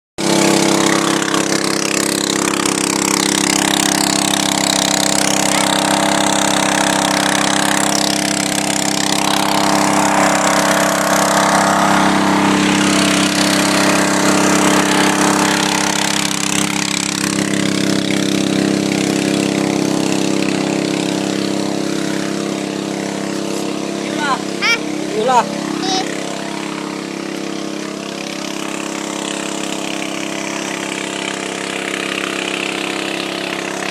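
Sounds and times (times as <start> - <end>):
portable pump engine running: 0.2 - 33.9.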